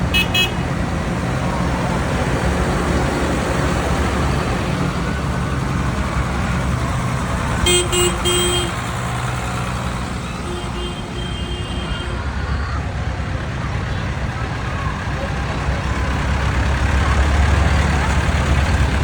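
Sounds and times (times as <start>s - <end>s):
tractor engines driving past: 0.0s - 19.0s.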